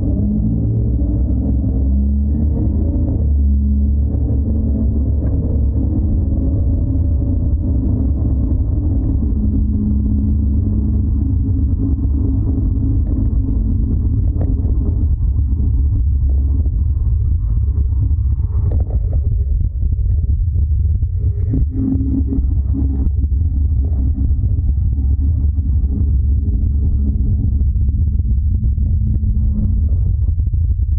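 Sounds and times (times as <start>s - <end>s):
van droning rumble: 0.0s - 30.9s.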